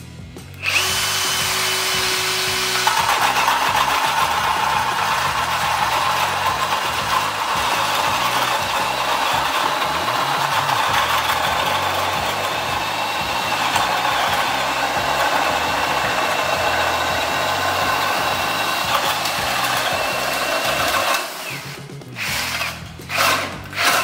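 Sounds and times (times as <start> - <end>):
cordless drill motor whine: 0.5 - 24.0
hole saw cutting plywood: 0.6 - 24.0.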